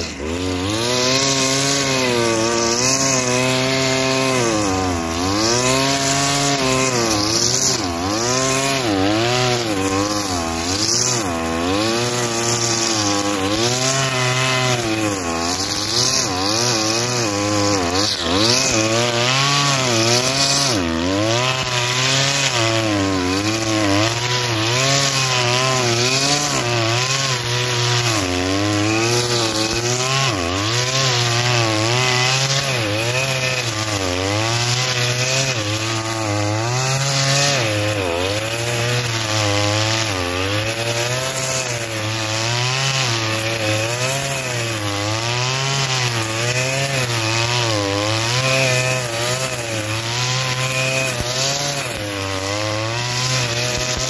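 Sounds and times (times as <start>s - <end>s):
brushcutter engine cutting grass: 0.0s - 54.0s.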